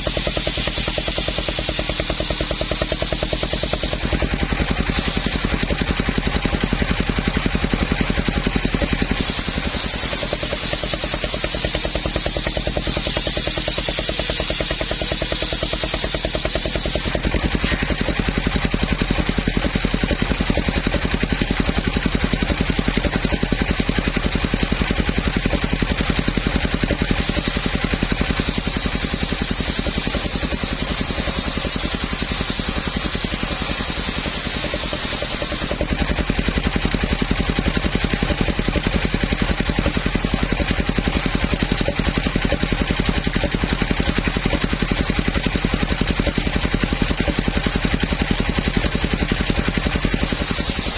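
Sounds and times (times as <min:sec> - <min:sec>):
saw blade hissing through wood: 0:00.0 - 0:50.9
sawmill engine running: 0:00.0 - 0:50.9.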